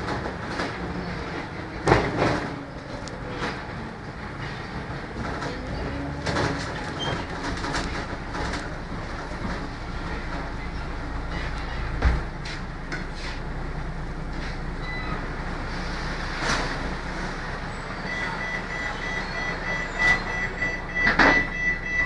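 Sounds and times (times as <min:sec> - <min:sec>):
diesel bus engine running: 0:00.0 - 0:22.0.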